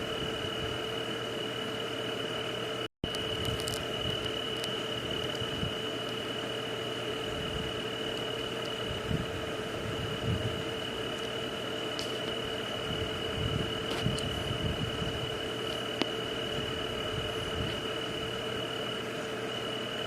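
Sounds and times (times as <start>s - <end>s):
low irregular pulsing: 0.0s - 20.0s
low steady hum: 0.0s - 20.0s
steady high-pitched tone: 0.0s - 20.0s.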